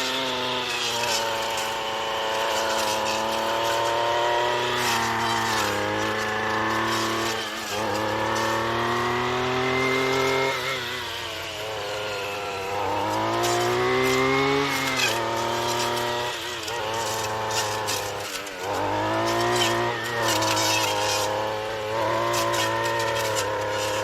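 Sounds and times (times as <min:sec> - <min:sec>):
blade crackling through brush: 0:00.0 - 0:24.0
weed whacker engine running: 0:00.0 - 0:24.0.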